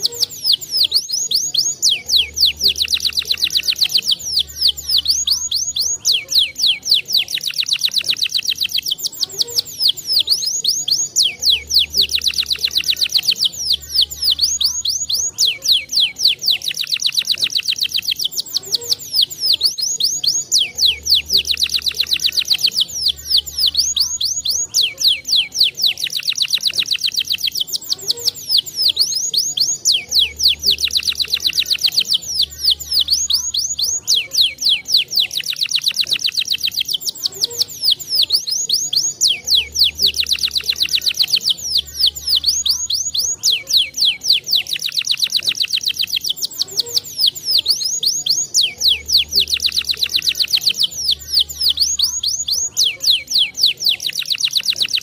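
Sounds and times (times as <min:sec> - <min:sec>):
canary singing fast trills: 0:00.0 - 0:55.0.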